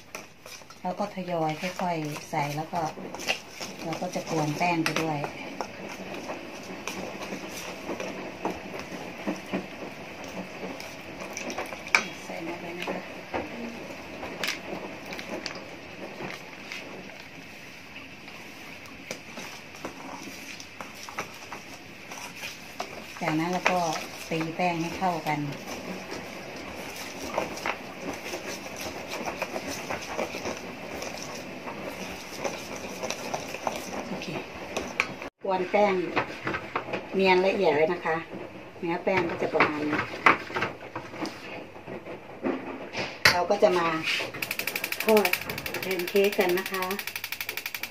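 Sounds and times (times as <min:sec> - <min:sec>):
spoon stirring batter in metal bowl: 0:00.0 - 0:17.4, 0:18.2 - 0:38.2, 0:38.8 - 0:42.6, 0:43.3 - 0:47.9.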